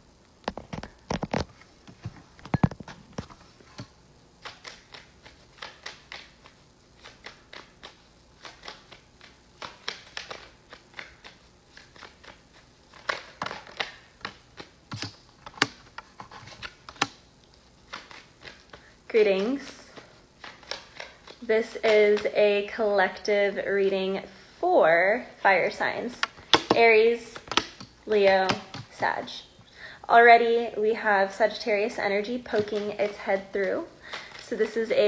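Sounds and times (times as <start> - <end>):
cards being shuffled: 0.4 - 22.4, 25.7 - 29.3, 32.3 - 35.0.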